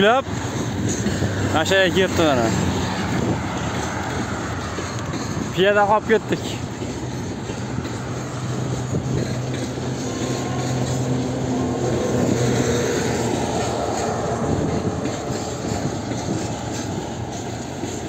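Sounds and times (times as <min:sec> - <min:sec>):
freight train wheels rumbling on rails: 0:00.0 - 0:18.0.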